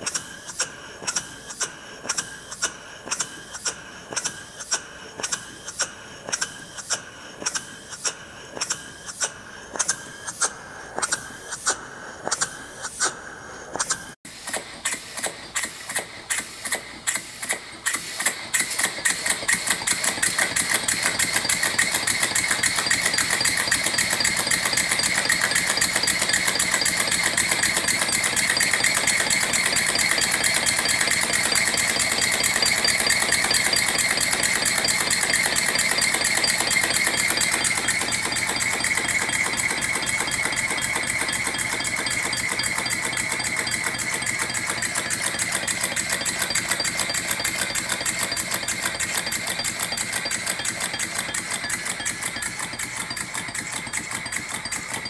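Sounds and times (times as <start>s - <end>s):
steam engine exhaust puffs: 0.0s - 55.0s.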